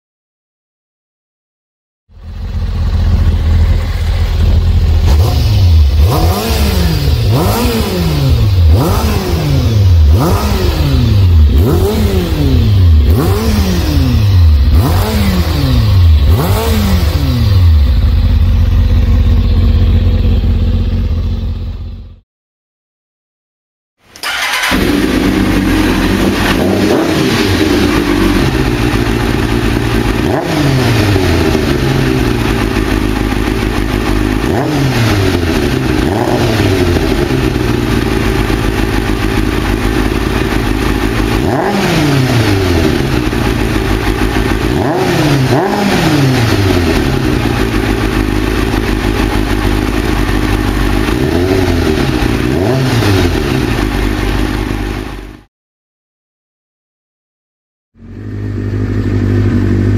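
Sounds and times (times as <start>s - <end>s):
motorcycle engine revving: 2.1s - 22.2s, 24.2s - 55.5s, 58.0s - 59.9s.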